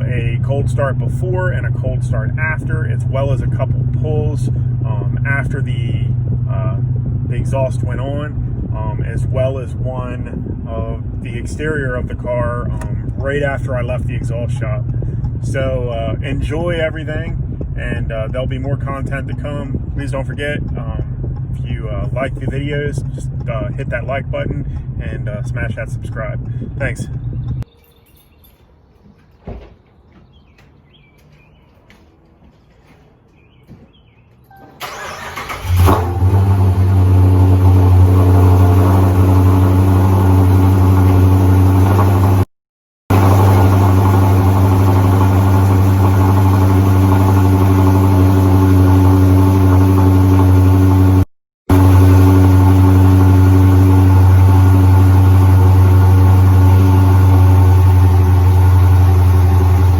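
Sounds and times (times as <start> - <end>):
car engine idling loudly: 0.0 - 27.4, 34.8 - 42.4, 43.1 - 59.9
car engine cranking and starting: 0.0 - 27.6, 34.5 - 42.5, 43.1 - 59.9.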